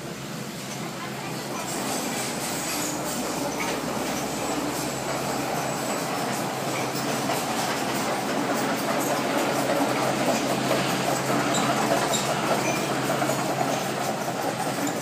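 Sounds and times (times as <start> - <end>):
excavator engine hum: 0.0 - 15.0
mechanical rumble and clatter: 1.6 - 15.0.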